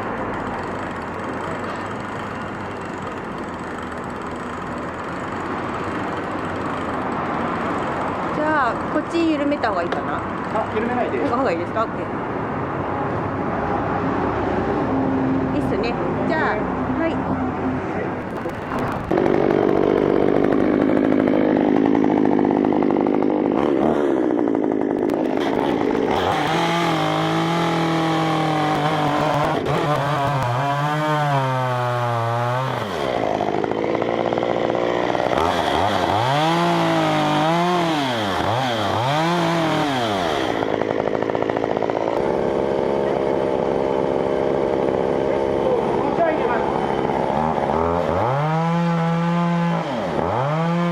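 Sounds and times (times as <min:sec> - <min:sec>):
chainsaw cutting at high revs: 0:00.0 - 0:11.9, 0:18.2 - 0:50.9.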